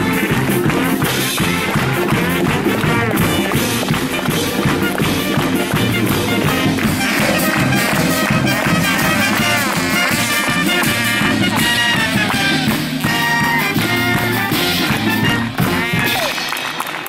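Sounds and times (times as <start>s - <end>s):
lively band music: 0.0s - 17.0s.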